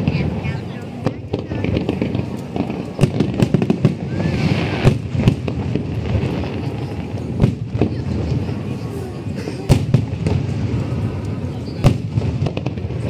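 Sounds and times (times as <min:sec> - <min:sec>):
fireworks crackling bangs: 0:00.0 - 0:13.0
loud fireworks bangs: 0:00.0 - 0:13.0.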